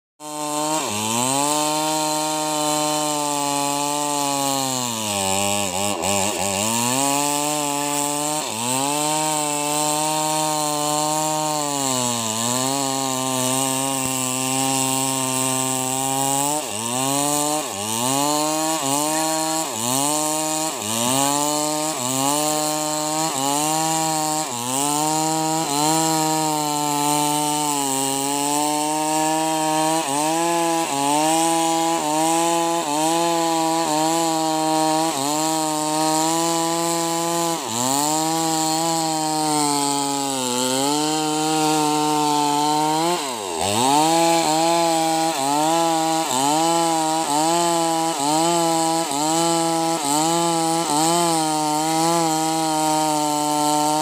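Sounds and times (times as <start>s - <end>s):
chainsaw cutting log: 0.2s - 54.0s.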